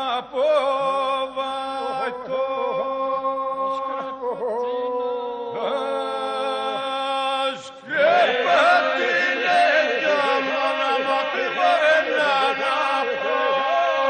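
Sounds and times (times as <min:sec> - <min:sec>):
vocal group folk singing: 0:00.0 - 0:04.6, 0:05.5 - 0:14.0.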